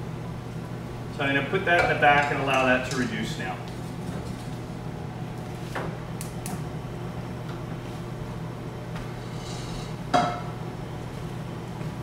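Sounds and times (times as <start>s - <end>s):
low hum of kitchen appliances: 0.0s - 12.0s.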